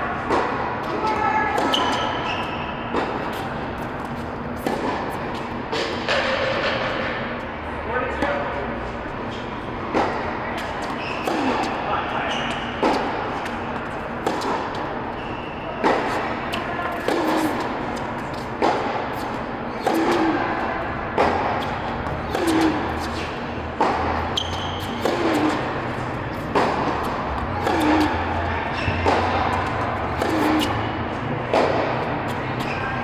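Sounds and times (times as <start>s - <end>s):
tennis balls bouncing on hard court: 0.2s - 7.2s, 9.9s - 32.8s
tennis balls struck by rackets: 0.2s - 7.3s, 9.8s - 15.1s, 15.7s - 32.8s.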